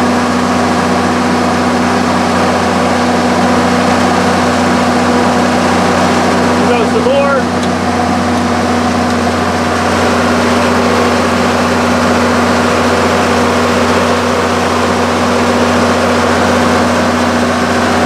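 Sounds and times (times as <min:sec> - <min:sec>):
diesel generator humming: 0:00.0 - 0:18.0.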